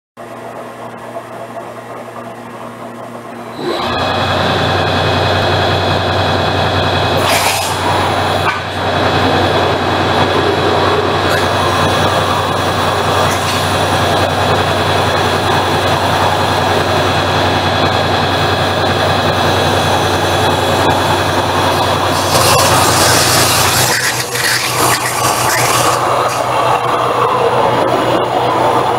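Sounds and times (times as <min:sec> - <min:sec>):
pump humming: 0:03.4 - 0:28.9
cutting jet hissing: 0:03.6 - 0:28.9.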